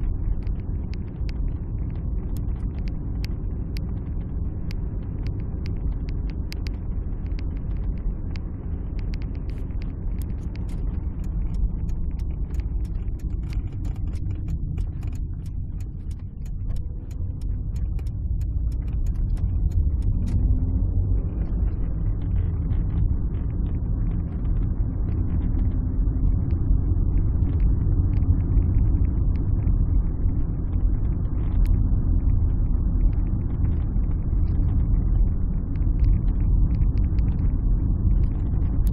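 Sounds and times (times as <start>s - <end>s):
engine and road rumble in car: 0.0s - 38.9s.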